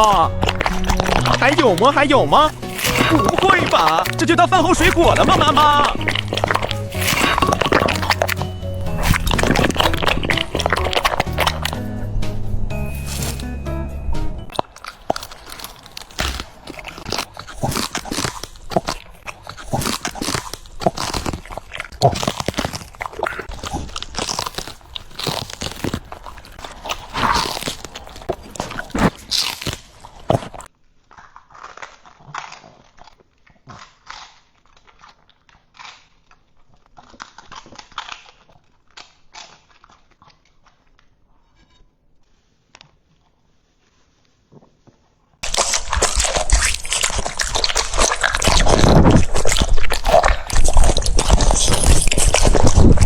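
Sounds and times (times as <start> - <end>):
dog chewing crunchy food: 0.0 - 12.2, 12.8 - 13.6, 14.4 - 41.4, 42.4 - 53.0.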